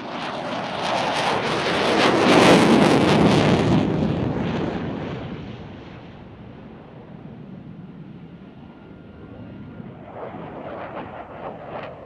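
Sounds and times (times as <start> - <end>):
jet engine roaring past: 0.0 - 12.0.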